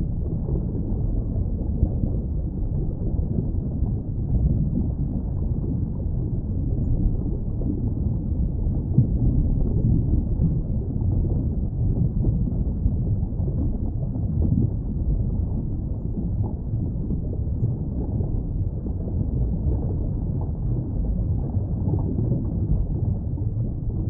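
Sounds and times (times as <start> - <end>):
underwater rumbling wash: 0.0 - 24.0.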